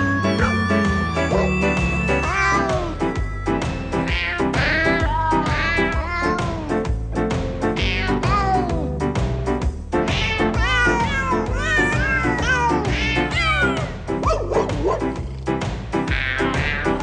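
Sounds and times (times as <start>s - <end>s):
tuned cat meows melody: 0.0s - 6.9s, 7.7s - 9.0s, 10.0s - 14.6s, 16.1s - 17.0s.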